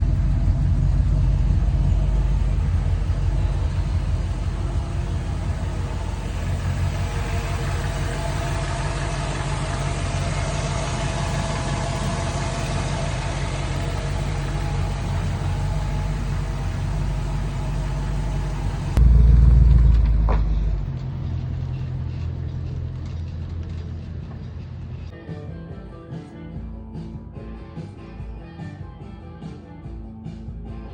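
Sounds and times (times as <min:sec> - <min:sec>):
car engine idling: 0:00.0 - 0:25.1
loud low rumble: 0:00.0 - 0:25.1.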